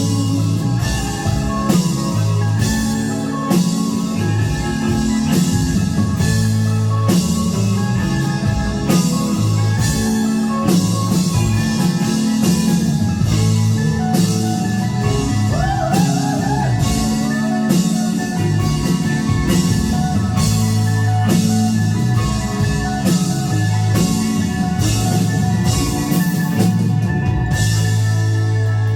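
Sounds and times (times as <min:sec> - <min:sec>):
bass guitar: 0:00.0 - 0:28.9
drum kit beat: 0:00.0 - 0:28.9
electric guitars: 0:00.0 - 0:28.9.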